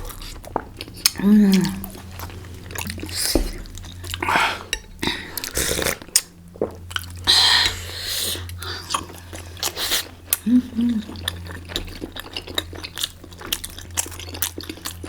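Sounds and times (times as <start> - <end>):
chewing dumplings: 0.0 - 15.0.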